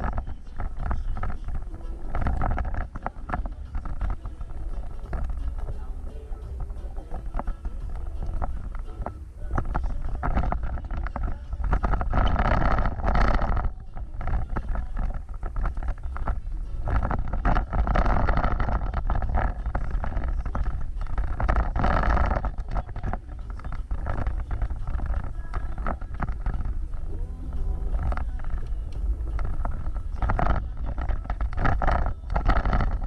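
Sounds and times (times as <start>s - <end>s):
off-road vehicle rumbling: 0.0s - 33.0s.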